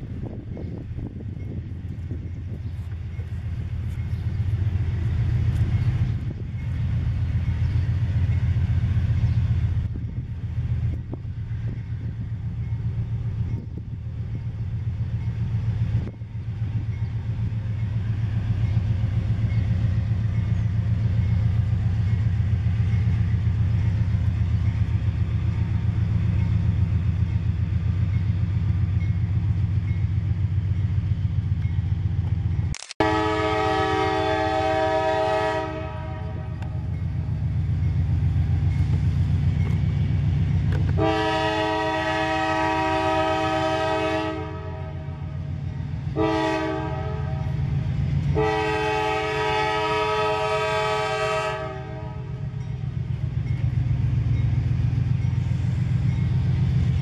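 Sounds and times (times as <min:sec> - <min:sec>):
diesel locomotive engines droning: 0:00.0 - 0:57.0.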